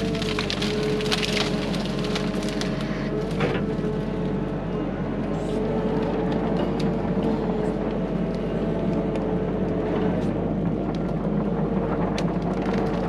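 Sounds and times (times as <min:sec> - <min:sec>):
wood cracking and splintering: 0:00.0 - 0:04.5, 0:06.0 - 0:13.0
excavator diesel engine running: 0:00.0 - 0:13.0.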